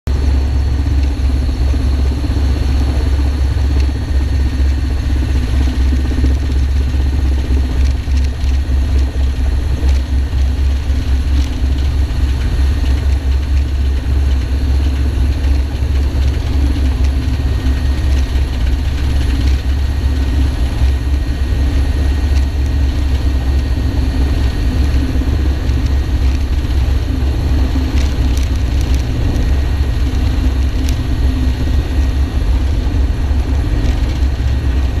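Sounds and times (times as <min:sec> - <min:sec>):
helicopter rotor throbbing: 0:00.1 - 0:35.0.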